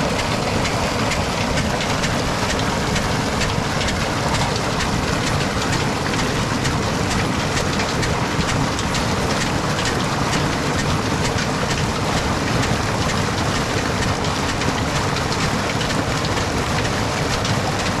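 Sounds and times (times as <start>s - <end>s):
diesel engine running: 0.0s - 18.0s
water gushing and splashing: 0.0s - 18.0s.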